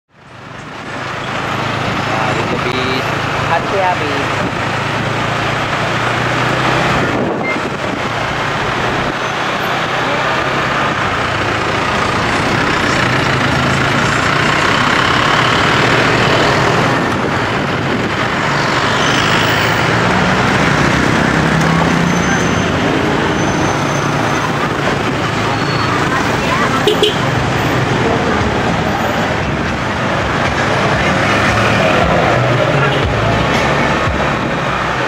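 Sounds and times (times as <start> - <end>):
other vehicles passing close: 0.1 - 35.0
road noise: 0.1 - 35.0
motorbike engine: 4.2 - 34.3.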